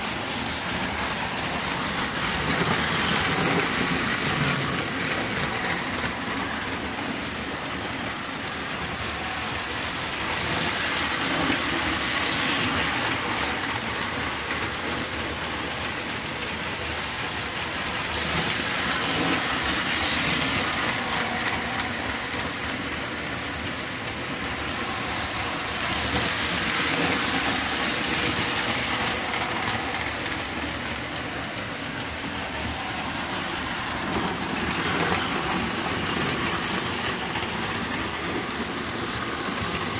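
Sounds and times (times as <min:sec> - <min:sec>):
toy trains rolling on track: 0:00.0 - 0:39.9
whir of train motors: 0:00.0 - 0:39.9.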